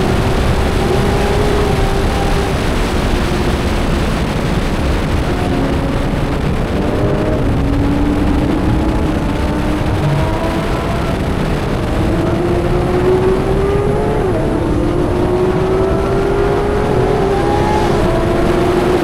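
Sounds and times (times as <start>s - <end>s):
low rushing noise: 0.0s - 19.0s
sports car engine: 0.0s - 19.0s.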